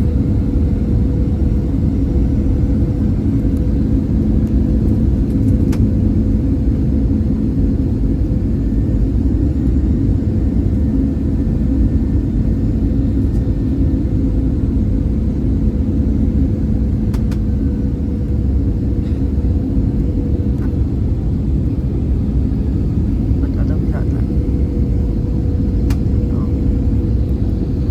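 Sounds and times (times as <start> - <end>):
airplane cabin engine rumble: 0.0 - 27.9
constant hum: 0.0 - 27.9.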